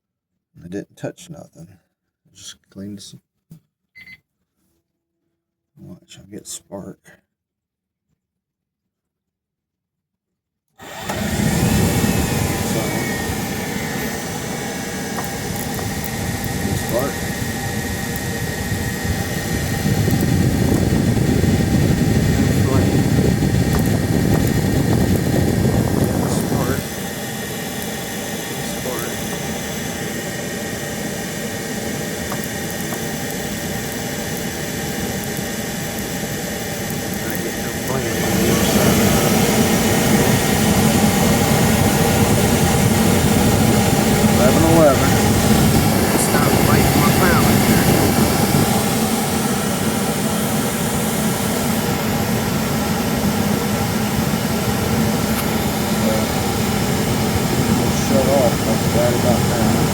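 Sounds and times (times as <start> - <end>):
blower fan whirring: 10.8 - 59.9
igniter sparking: 10.8 - 59.9.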